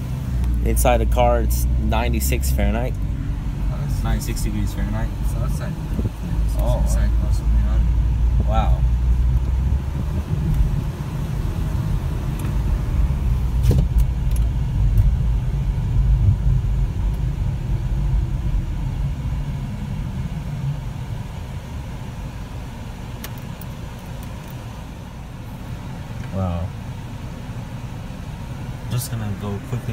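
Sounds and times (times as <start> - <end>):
car road and engine rumble: 0.0 - 29.9.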